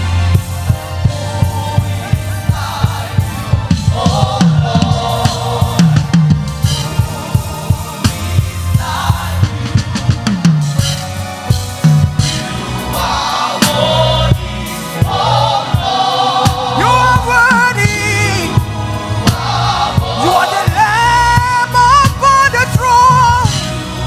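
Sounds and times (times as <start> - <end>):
drum kit beat: 0.0 - 24.0
live gospel band music: 0.0 - 24.0.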